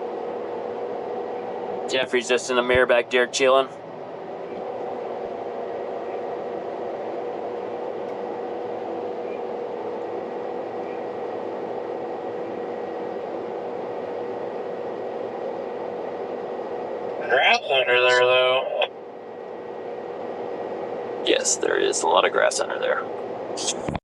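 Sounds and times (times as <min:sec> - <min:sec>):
combine harvester hum: 0:00.0 - 0:24.0.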